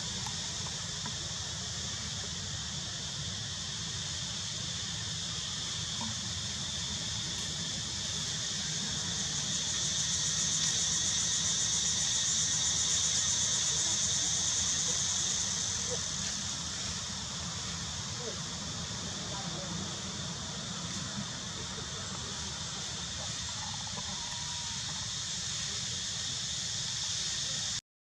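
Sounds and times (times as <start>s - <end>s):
high-pitched outdoor hiss: 0.0s - 27.8s.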